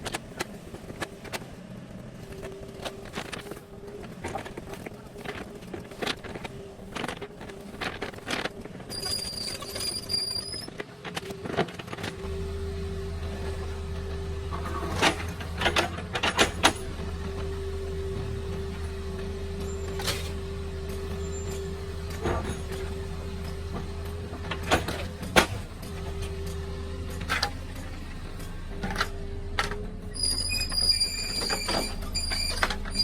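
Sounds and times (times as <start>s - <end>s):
excavator engine humming: 0.0s - 33.0s.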